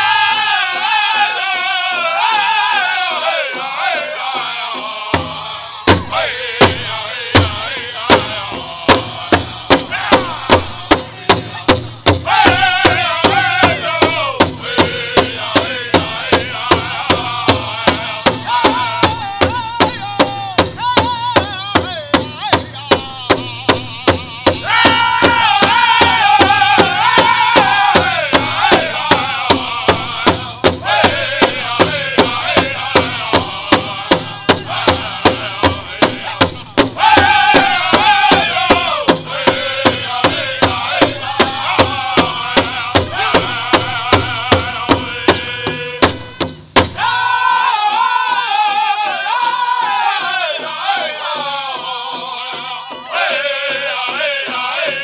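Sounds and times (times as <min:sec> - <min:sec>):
big drum beating: 0:00.0 - 0:55.0
high-pitched group singing: 0:00.0 - 0:55.0.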